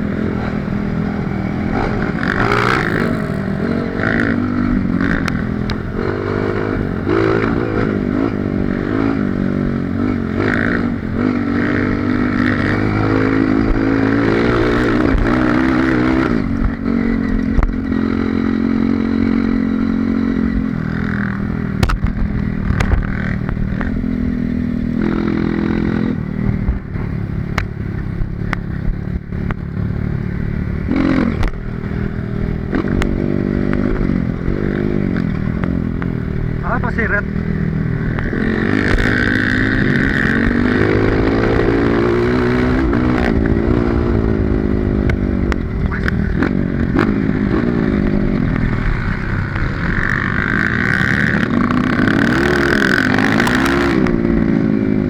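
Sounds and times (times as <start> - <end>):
dirt bike engine revving: 0.0 - 27.2, 27.8 - 55.0.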